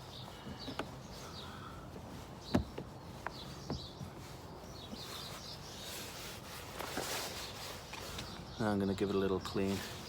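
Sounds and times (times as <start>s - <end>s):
birds chirping: 0.0s - 10.0s
rustling: 0.0s - 10.0s.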